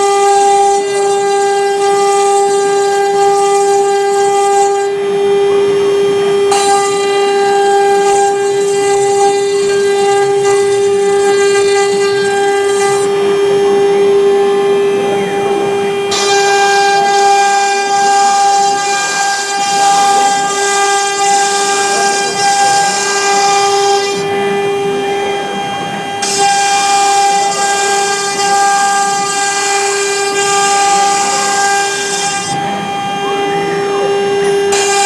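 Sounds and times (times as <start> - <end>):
router spindle high whine: 0.0 - 35.0
hissing cutting noise: 6.4 - 35.0.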